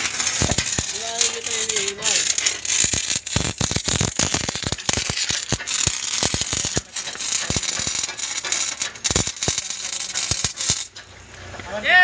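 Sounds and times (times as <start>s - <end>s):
welding arc crackling: 0.0s - 11.5s.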